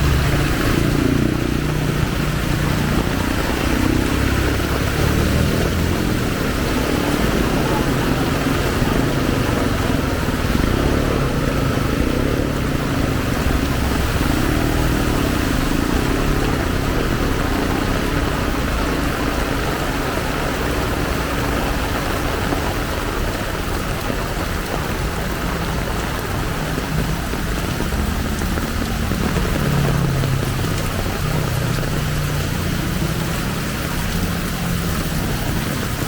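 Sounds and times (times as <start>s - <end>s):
heavy rain falling: 0.0s - 36.0s
vehicle engine running: 0.0s - 36.0s.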